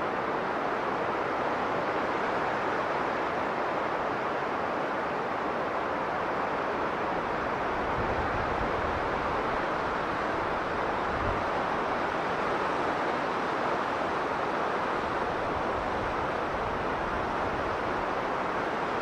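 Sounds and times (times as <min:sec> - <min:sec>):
blizzard wind blowing: 0:00.0 - 0:19.0.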